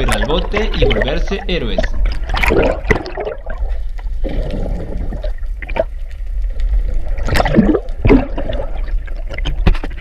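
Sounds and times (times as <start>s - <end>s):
water sloshing and gurgling underwater: 0.0s - 10.0s.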